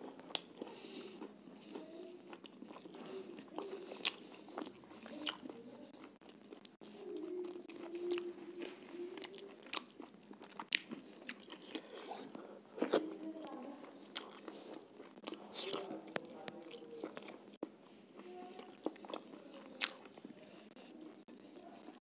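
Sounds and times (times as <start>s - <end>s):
person chewing with mouth clicks: 0.0s - 21.6s.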